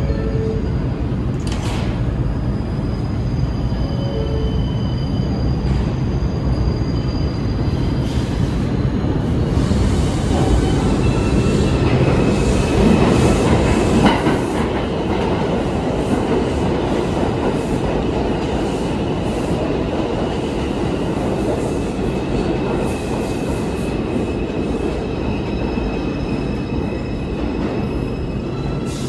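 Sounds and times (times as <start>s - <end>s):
subway train rumble: 0.0s - 29.0s.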